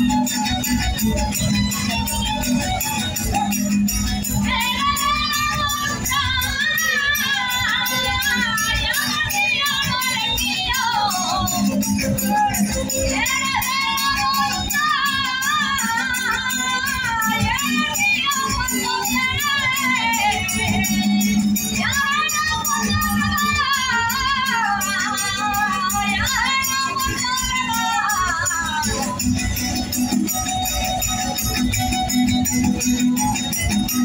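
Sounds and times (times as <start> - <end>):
folk band accompaniment: 0.0 - 34.0
tambourine jingles: 0.0 - 34.0.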